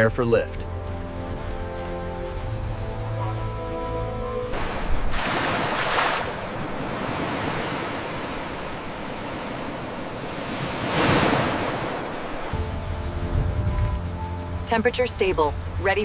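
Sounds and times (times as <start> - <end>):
sea waves breaking: 0.9 - 16.0.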